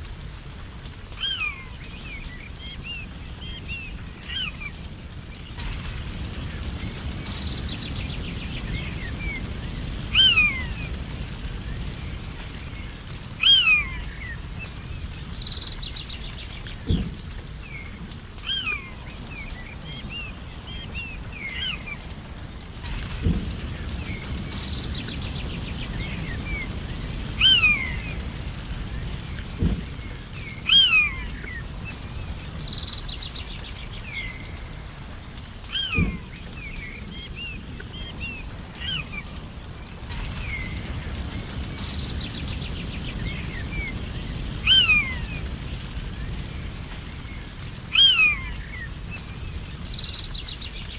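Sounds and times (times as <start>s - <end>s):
low rushing background noise: 0.0s - 50.9s.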